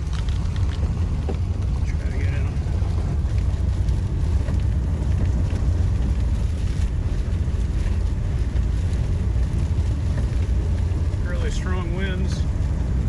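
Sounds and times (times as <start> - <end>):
strong wind rumbling on microphone: 0.0 - 13.0.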